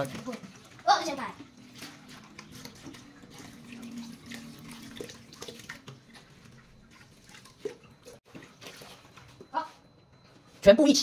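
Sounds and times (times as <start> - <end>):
splashes and clinks of rinsing: 0.0 - 10.6.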